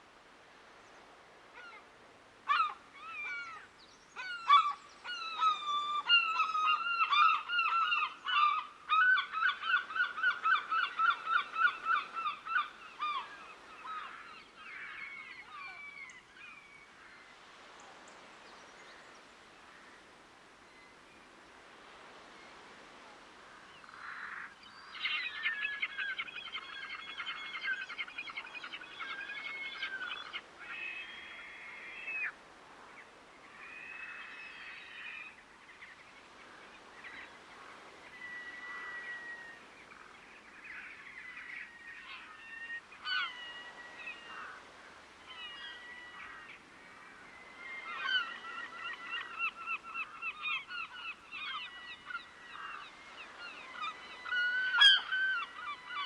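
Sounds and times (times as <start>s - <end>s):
water birds calling: 0.6s - 56.0s.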